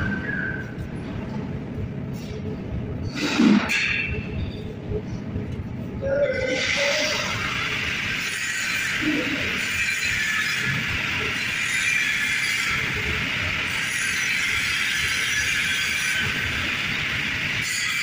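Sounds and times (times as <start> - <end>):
steady mechanical noise: 0.0 - 18.0.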